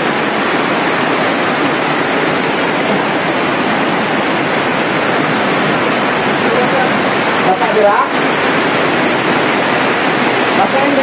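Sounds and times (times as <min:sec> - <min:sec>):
heavy rain and floodwater rushing: 0:00.0 - 0:11.0.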